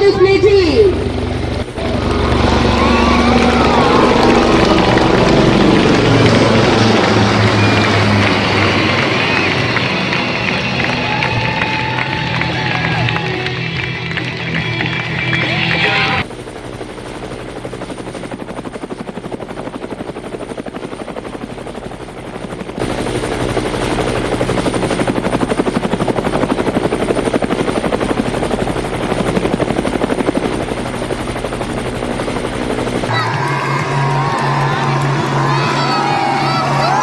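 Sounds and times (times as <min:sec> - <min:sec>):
helicopters flying past: 0:00.0 - 0:37.0.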